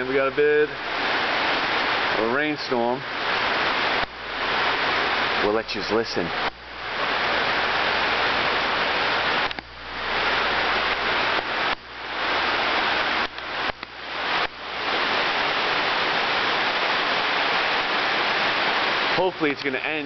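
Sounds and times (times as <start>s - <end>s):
heavy pouring rain: 0.0s - 20.0s.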